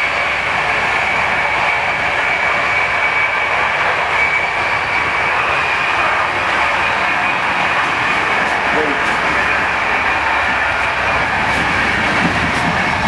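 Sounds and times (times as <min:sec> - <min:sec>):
steady high whine: 0:00.0 - 0:13.0
train running rumble: 0:00.0 - 0:13.0.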